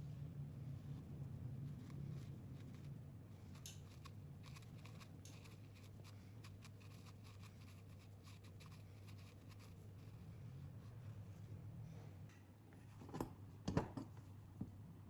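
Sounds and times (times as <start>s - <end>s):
faint scratching with light clicks: 0.5s - 13.2s.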